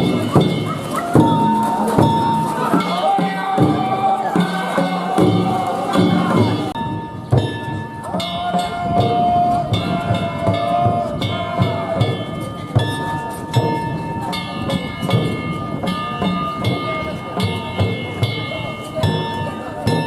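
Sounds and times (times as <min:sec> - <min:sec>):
taiko drum beating: 0:00.0 - 0:20.0.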